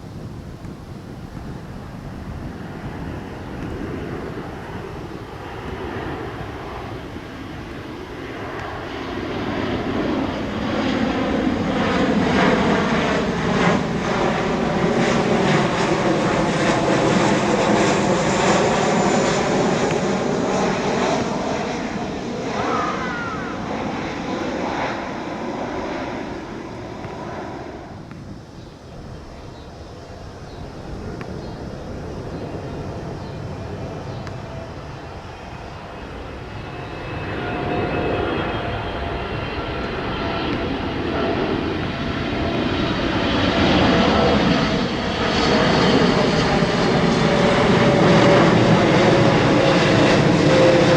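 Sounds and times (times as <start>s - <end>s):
jet airliner passing: 0.0s - 50.9s.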